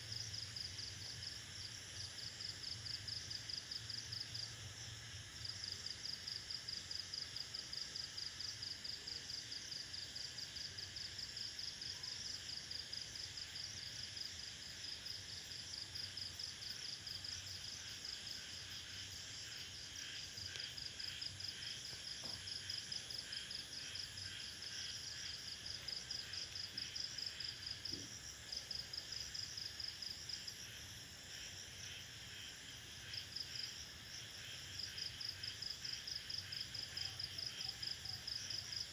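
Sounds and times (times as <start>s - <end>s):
cricket chirping: 0.0s - 38.9s
insect chorus: 0.0s - 38.9s.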